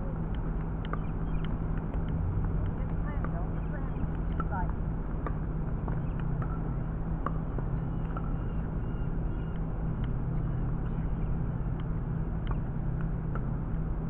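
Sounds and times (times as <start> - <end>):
paddles tapping a ball: 0.0 - 13.7
low outdoor hum: 0.0 - 14.0.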